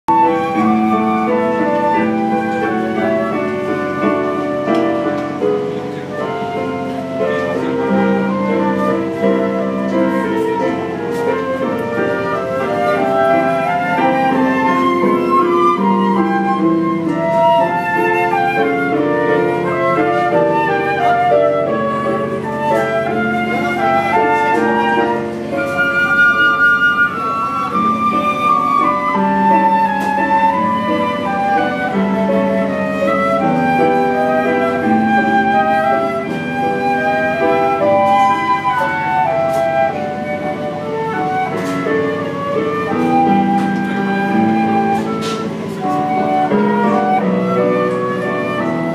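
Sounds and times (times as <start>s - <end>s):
flutes playing a tune: 0.0s - 48.9s
electronic keyboard chords: 0.1s - 48.9s.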